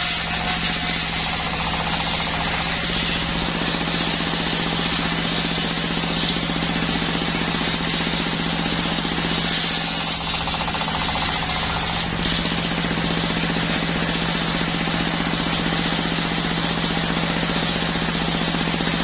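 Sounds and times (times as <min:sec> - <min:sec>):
circular saw engine knocking: 0:00.0 - 0:19.0.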